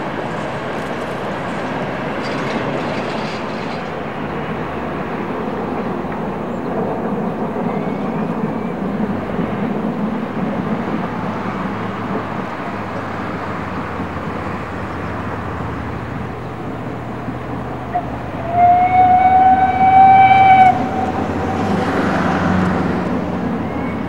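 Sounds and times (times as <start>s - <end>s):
distant steam locomotive rumble: 0.0s - 24.0s.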